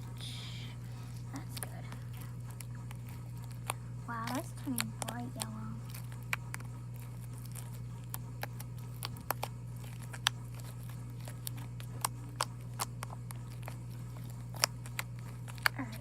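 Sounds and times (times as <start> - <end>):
slime kneaded by hand: 0.0 - 16.0.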